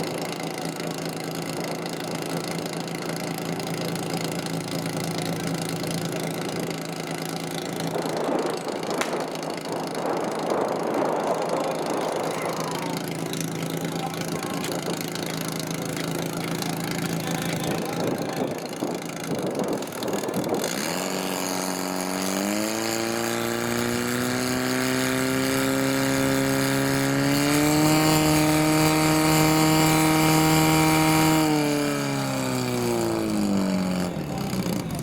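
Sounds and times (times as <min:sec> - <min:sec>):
fire pump engine revving: 0:00.0 - 0:35.0.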